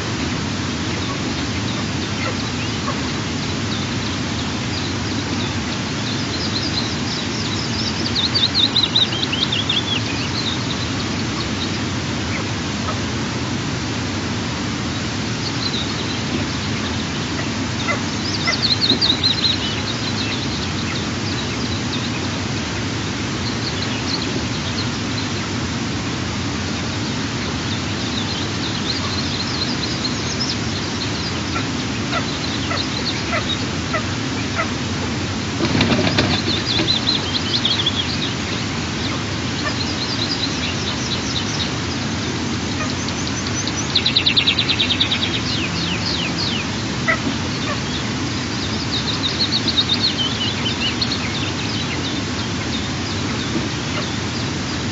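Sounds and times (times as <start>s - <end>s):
eaglets chirping: 0.0s - 13.1s, 15.3s - 25.6s, 26.7s - 34.8s, 35.6s - 54.9s
low background rush: 0.0s - 54.9s.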